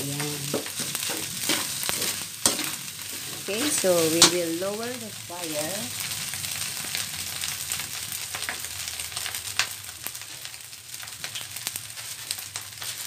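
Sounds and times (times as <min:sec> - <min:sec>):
crackles and pops: 0:00.0 - 0:13.0
fried rice sizzling in a wok: 0:00.0 - 0:13.0.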